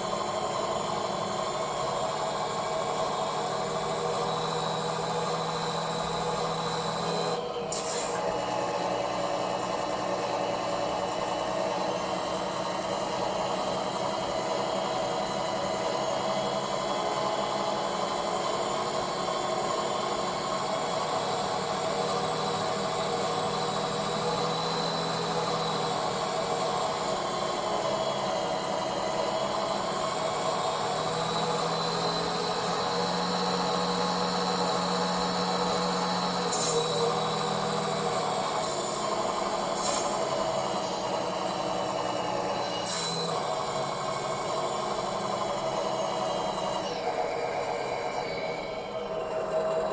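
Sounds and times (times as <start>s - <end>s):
model truck whining drone: 0.0s - 49.9s.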